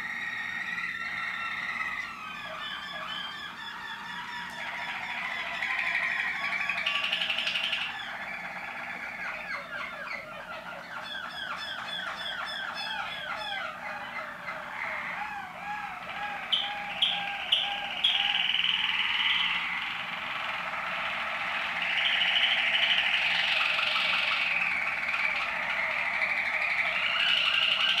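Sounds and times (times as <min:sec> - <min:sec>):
canaries singing: 0:00.0 - 0:28.0.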